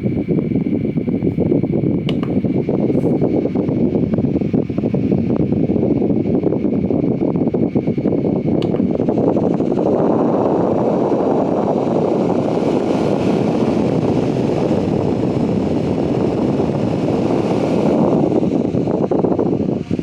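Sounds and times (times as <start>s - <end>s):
electric fan air rush: 0.0s - 20.0s.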